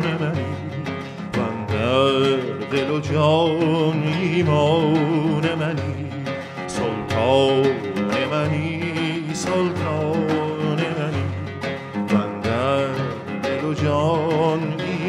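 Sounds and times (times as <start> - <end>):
man singing ornamented melody: 0.0 - 15.0
plucked oud: 0.0 - 15.0.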